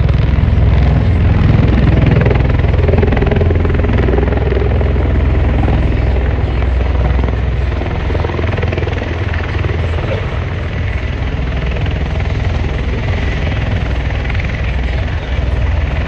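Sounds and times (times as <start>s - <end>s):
tiltrotor aircraft rotor pulsing: 0.0s - 16.0s.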